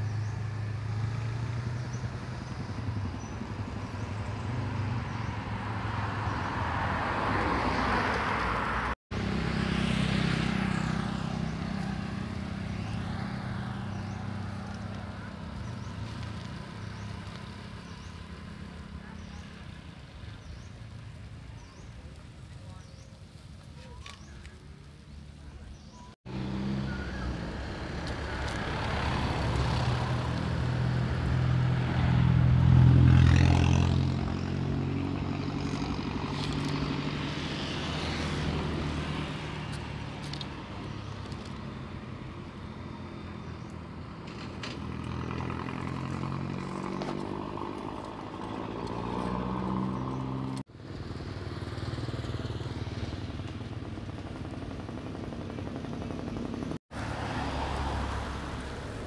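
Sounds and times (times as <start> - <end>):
vehicle engine running: 8.5 - 59.0.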